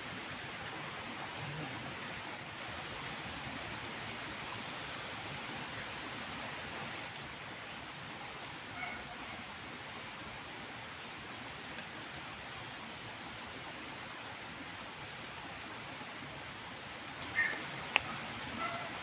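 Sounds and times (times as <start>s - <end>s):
running water hiss: 0.0s - 19.0s.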